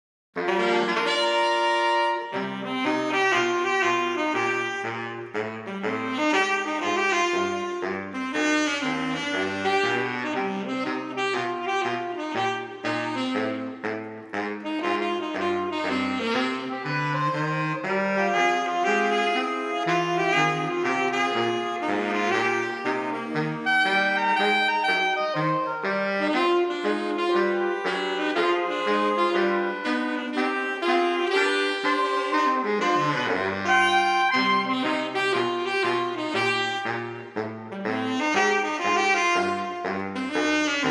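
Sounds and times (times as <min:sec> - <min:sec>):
baritone saxophone bass line: 0:00.4 - 0:40.9
saxophone quartet playing jazz: 0:00.4 - 0:40.9.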